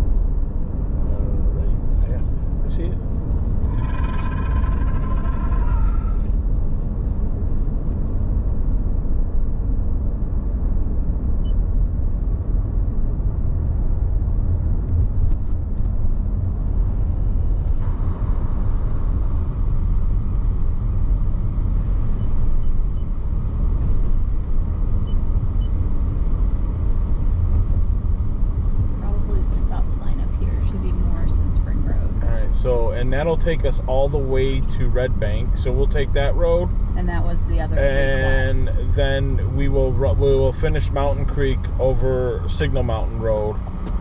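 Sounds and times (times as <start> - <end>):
car engine and tyres rumble: 0.0 - 44.0.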